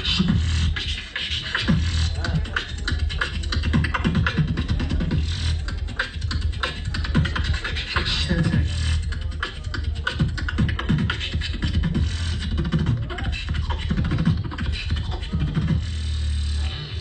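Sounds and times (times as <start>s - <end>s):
beatbox deep bass tone: 0.0s - 17.0s
beatbox mouth percussion: 0.0s - 17.0s.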